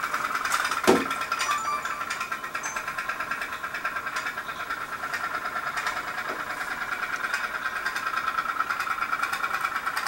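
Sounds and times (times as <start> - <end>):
toy steam boat putt-putt pulsing: 0.0 - 10.0.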